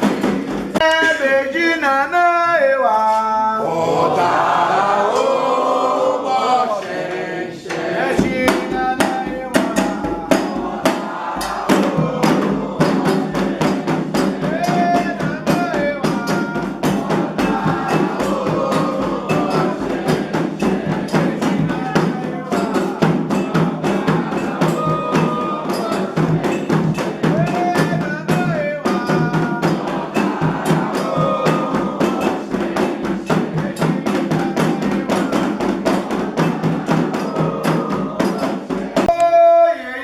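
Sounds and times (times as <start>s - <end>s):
fast hand drumming: 0.0s - 1.3s, 7.7s - 39.2s
voices singing a chant: 0.0s - 40.0s.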